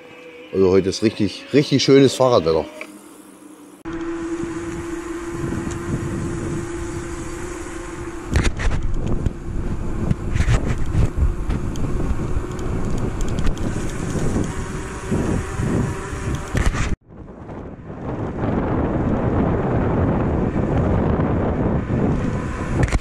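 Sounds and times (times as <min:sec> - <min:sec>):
steady hum: 0:00.0 - 0:23.0
bicycle tyre and road noise: 0:03.8 - 0:23.0
wind buffeting microphone: 0:03.9 - 0:23.0.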